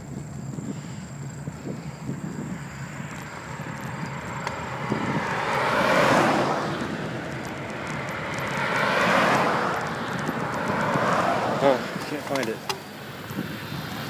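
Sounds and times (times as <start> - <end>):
vehicles passing: 0.0 - 14.0.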